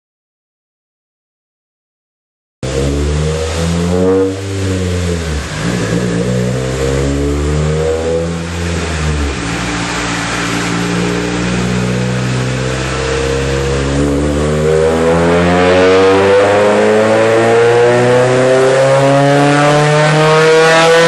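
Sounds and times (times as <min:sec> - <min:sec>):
car engine revving under load: 0:02.6 - 0:21.0.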